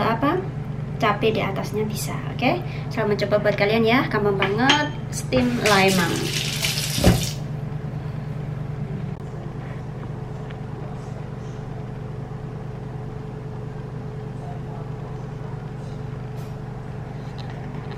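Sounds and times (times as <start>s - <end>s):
low machine hum: 0.0s - 17.9s.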